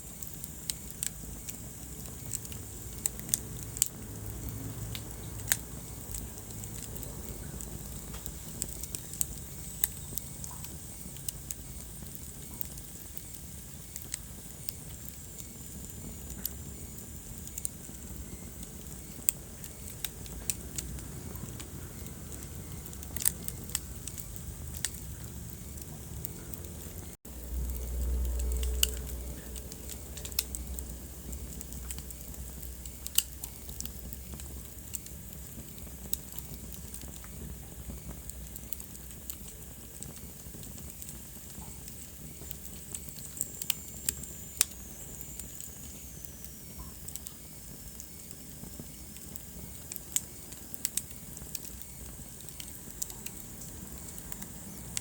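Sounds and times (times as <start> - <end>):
logs crackling and popping: 0.0 - 55.0
low rumble of flames: 0.0 - 55.0
soft hiss of flame: 0.0 - 55.0.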